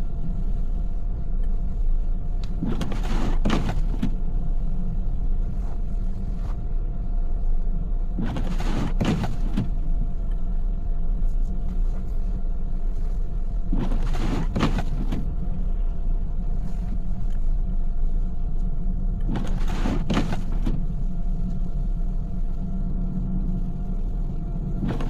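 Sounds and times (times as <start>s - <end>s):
car road and engine rumble: 0.0s - 25.0s
faint constant hum: 0.0s - 25.0s.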